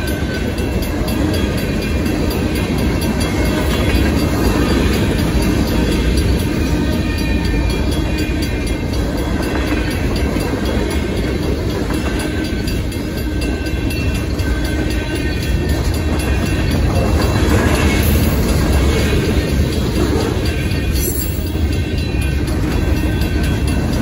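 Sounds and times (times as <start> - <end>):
crossing warning bells ringing: 0.0 - 24.0
train wheels rumbling on rails: 0.0 - 24.0
wheels clacking over rail joints: 0.0 - 24.0.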